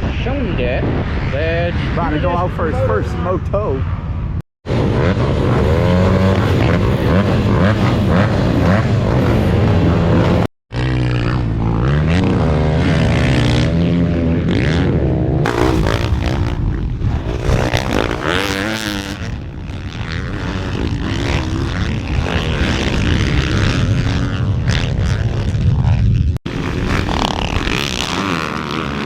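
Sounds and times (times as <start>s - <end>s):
dirt bike engines revving: 4.7s - 29.0s.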